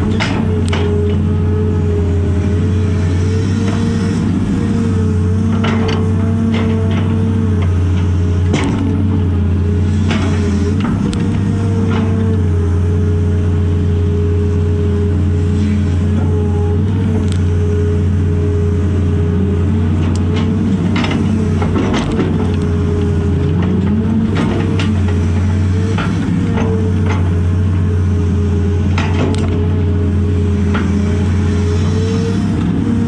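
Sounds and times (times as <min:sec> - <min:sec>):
excavator engine and hydraulics: 0:00.0 - 0:33.0.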